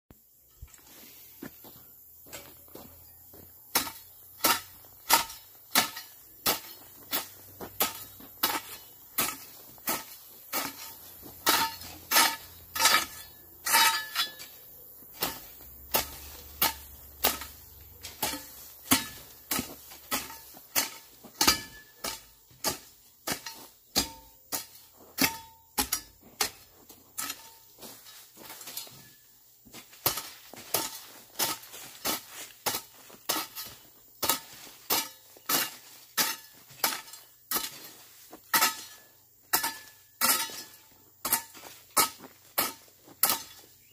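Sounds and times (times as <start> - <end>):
hoe striking ground: 0.5 - 43.9.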